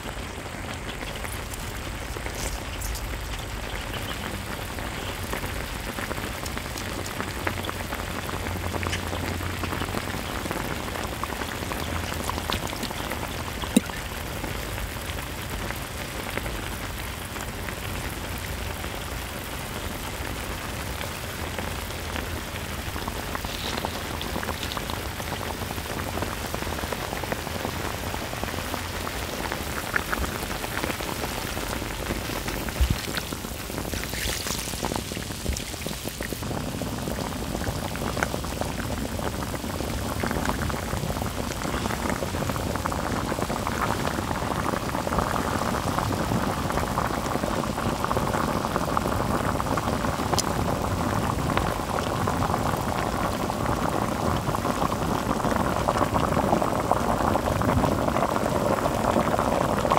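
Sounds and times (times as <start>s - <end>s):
braising liquid bubbling and sizzling: 0.0s - 59.9s.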